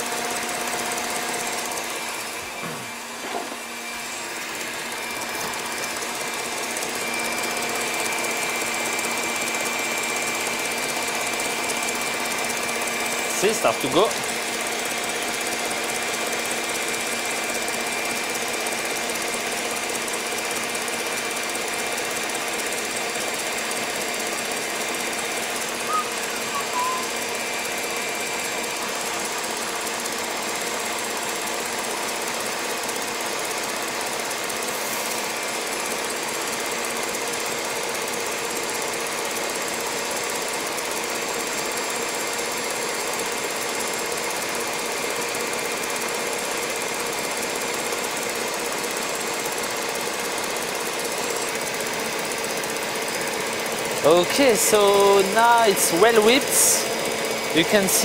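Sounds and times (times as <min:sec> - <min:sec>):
stand mixer whisking at high speed: 0:00.0 - 0:58.0.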